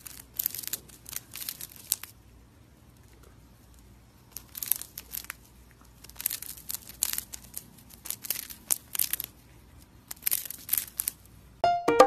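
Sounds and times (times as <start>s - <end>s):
hamster crunching a wafer biscuit: 0.0s - 2.2s, 3.0s - 11.4s.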